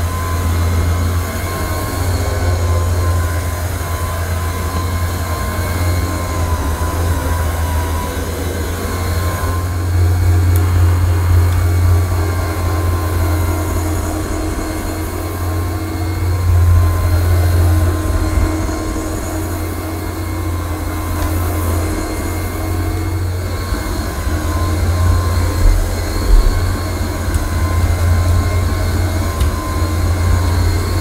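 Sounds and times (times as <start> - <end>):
floor cleaner pads spinning hum: 0.0 - 31.0.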